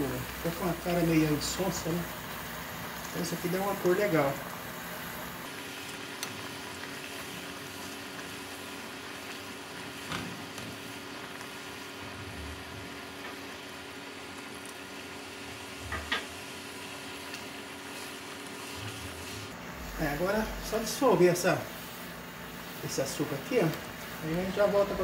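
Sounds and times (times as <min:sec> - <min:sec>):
syrup boiling in a saucepan: 0:00.0 - 0:25.0.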